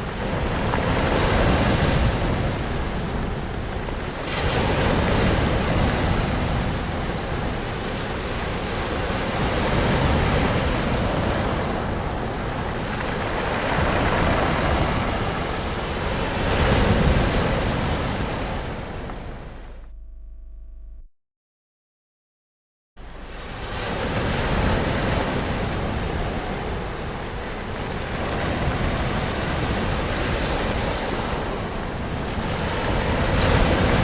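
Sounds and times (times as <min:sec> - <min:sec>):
ocean waves breaking: 0:00.0 - 0:19.9, 0:23.0 - 0:34.0.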